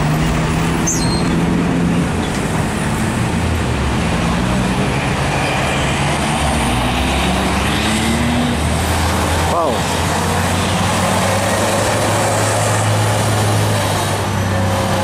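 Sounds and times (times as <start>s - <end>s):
truck diesel engines straining: 0.0s - 15.0s
tyres rumbling of passing vehicles: 0.0s - 15.0s.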